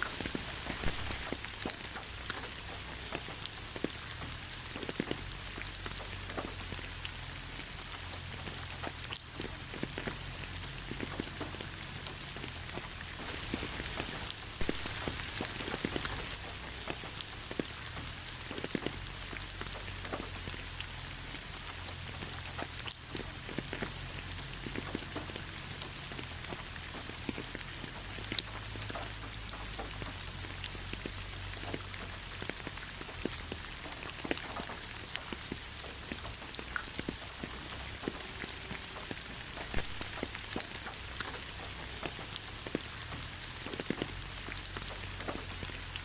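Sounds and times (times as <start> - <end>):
raindrops striking close by: 0.0 - 46.0
steady rain falling: 0.0 - 46.0.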